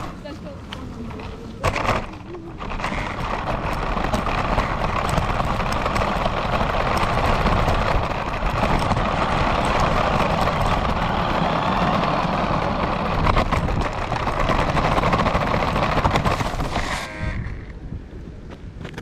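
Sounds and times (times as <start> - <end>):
small clicks and rattles: 0.0 - 17.7
radio-controlled car driving: 0.0 - 17.9.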